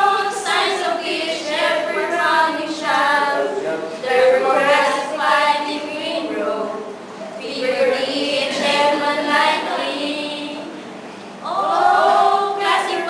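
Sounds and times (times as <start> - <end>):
women singing unaccompanied: 0.0 - 10.8, 11.4 - 13.0.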